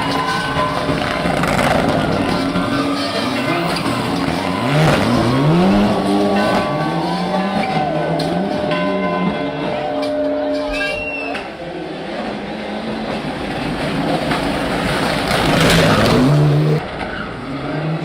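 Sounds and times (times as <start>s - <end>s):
race car engine revving: 0.7s - 9.8s, 12.3s - 18.0s.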